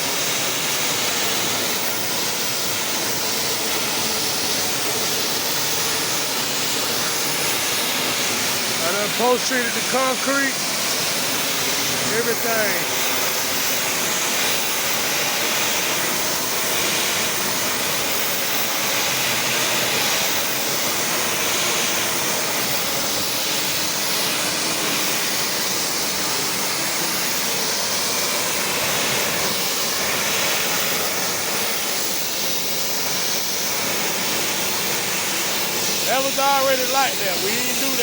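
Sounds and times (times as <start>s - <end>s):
pressure washer spraying water: 0.0s - 38.0s.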